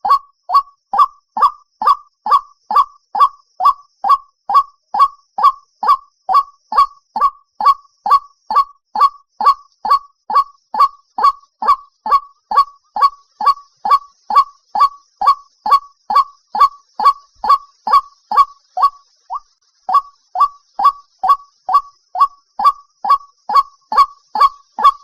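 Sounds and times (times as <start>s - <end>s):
bird calling repeated note: 0.0s - 25.0s.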